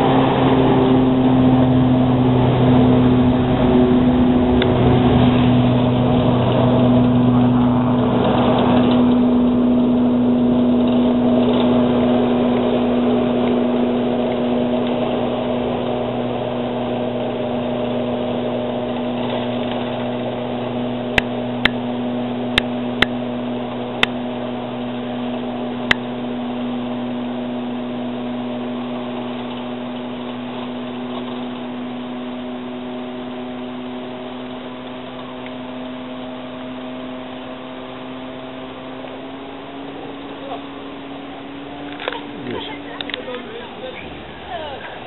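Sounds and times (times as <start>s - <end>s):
electric train motor hum: 0.0s - 45.0s.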